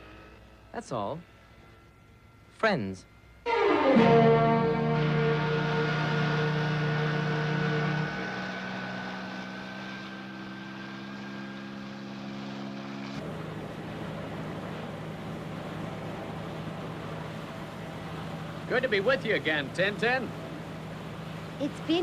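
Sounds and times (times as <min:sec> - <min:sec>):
aircraft engine hum and whine: 0:00.0 - 0:22.0
rushing noise: 0:03.5 - 0:21.7.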